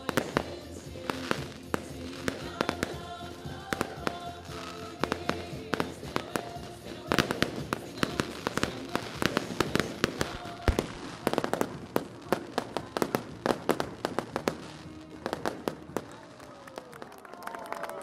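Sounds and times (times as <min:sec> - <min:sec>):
fireworks bangs and pops: 0:00.0 - 0:17.3.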